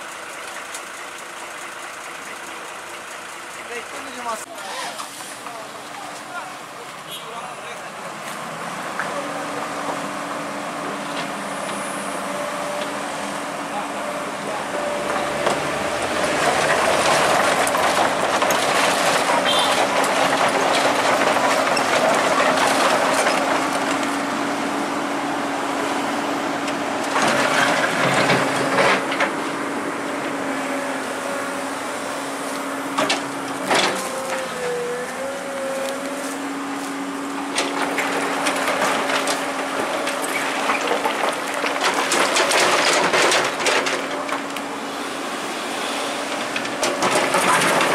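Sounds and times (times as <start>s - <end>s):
heavy machinery engine whining: 7.8s - 47.9s.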